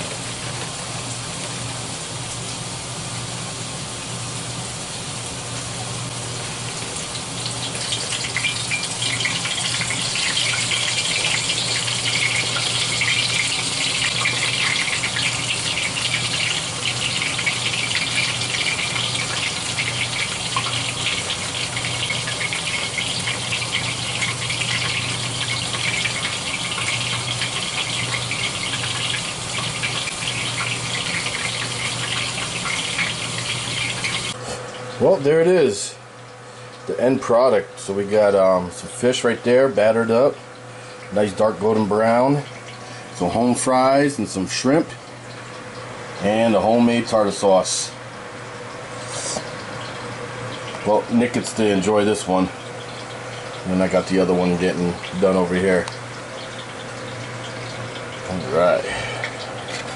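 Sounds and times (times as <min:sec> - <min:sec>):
oil sizzling and crackling: 0:00.0 - 0:37.0, 0:39.1 - 0:59.9.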